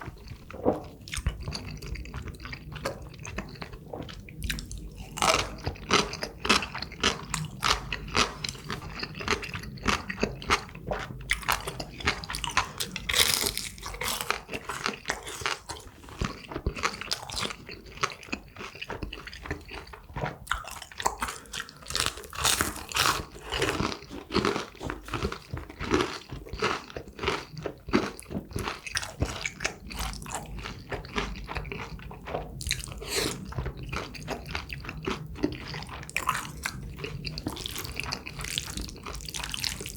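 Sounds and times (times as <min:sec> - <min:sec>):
crunching and chewing fried food: 0:00.0 - 0:39.9.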